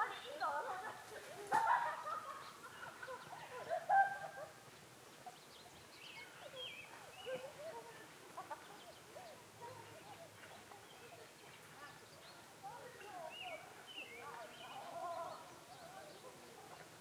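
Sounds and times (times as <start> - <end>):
wild birds chirping and calling: 0.0 - 17.0.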